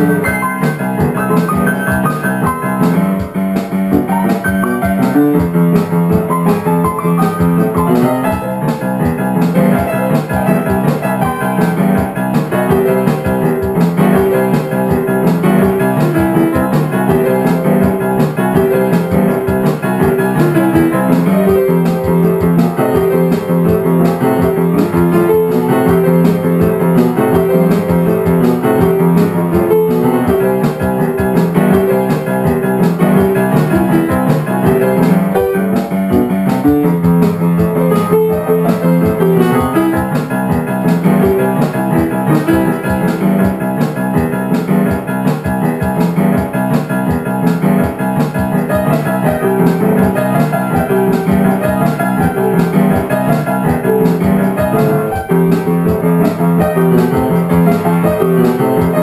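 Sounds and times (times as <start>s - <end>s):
boogie-woogie piano: 0.0s - 59.0s.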